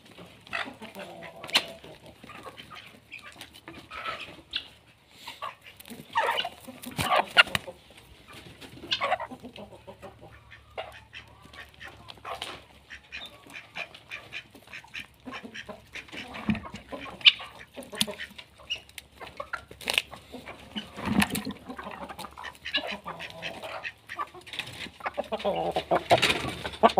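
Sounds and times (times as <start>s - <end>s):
chickens clucking: 0.0s - 26.9s
ducks quacking: 0.2s - 26.9s.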